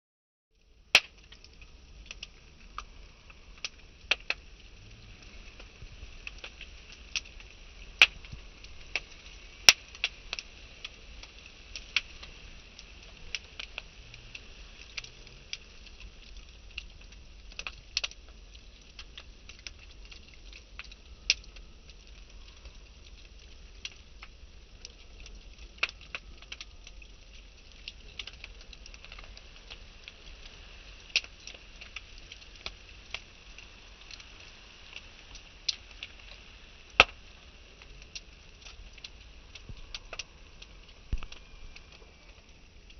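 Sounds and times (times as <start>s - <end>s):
fire hissing: 0.6s - 42.9s
wood fire crackling and popping: 0.6s - 42.9s.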